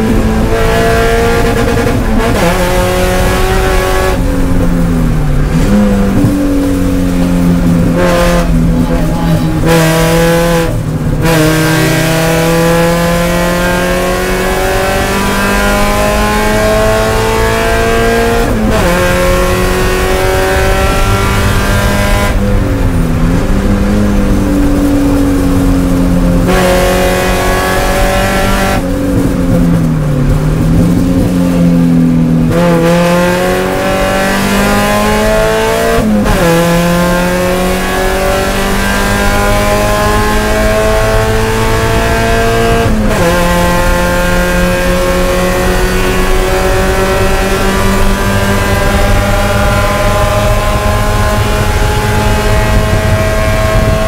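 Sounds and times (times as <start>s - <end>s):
race car engine under full throttle: 0.0s - 54.0s.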